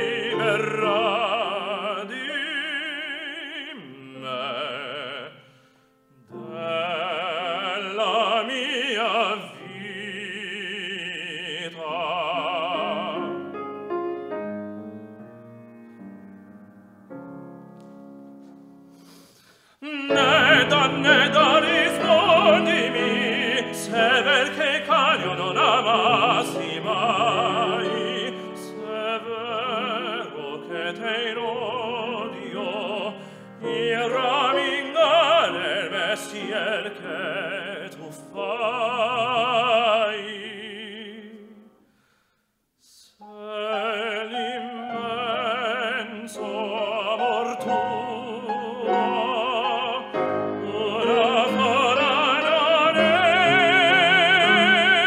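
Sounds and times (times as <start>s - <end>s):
man singing operatic aria: 0.0s - 13.8s, 19.8s - 41.8s, 42.8s - 55.0s
grand piano: 0.0s - 41.8s, 43.2s - 55.0s.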